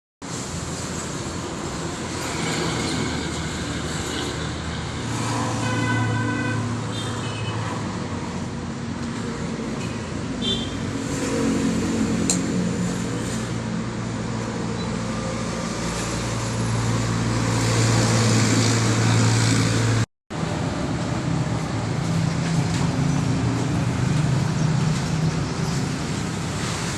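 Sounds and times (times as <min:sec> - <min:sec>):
road traffic engines: 0:00.2 - 0:26.9.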